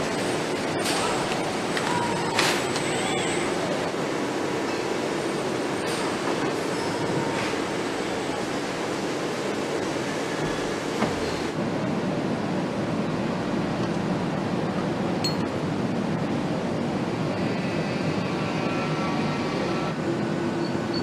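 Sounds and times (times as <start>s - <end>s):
mechanical din of assembly hall: 0.0s - 21.0s.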